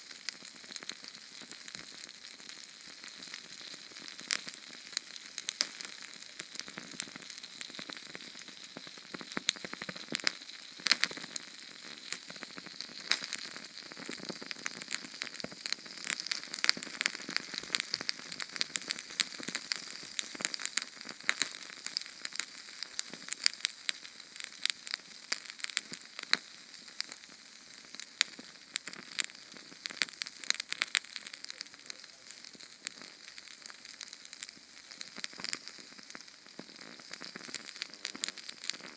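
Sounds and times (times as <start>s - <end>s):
small flame hissing and crackling: 0.0s - 38.9s.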